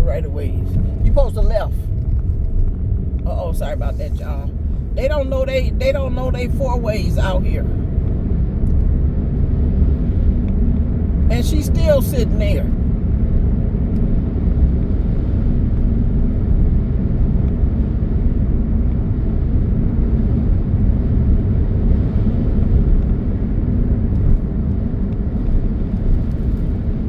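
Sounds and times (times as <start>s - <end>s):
car cabin rumble: 0.0s - 27.0s.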